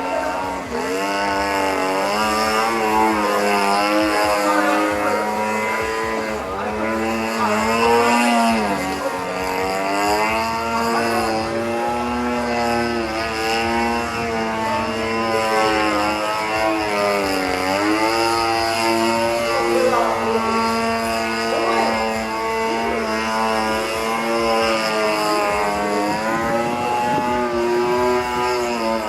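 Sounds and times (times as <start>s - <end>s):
model airplane engine in flight: 0.0s - 29.0s.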